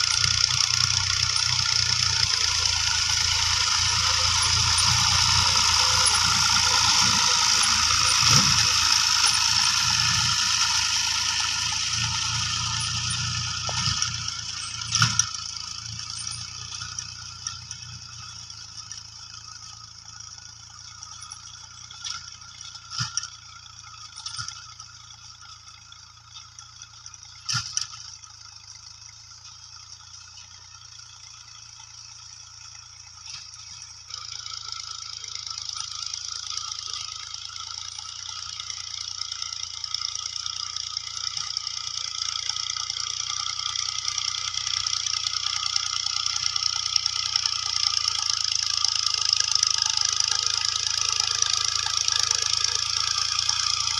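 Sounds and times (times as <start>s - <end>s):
tractor diesel engine rattling: 0.0s - 53.9s.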